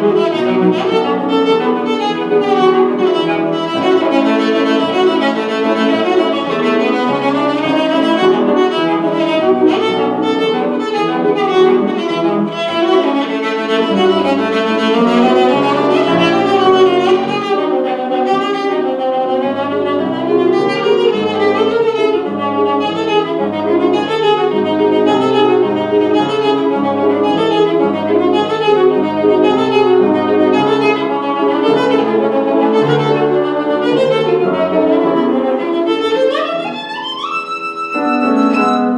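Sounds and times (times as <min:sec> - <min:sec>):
piano accompaniment: 0:00.0 - 0:38.9
solo violin: 0:00.0 - 0:38.9.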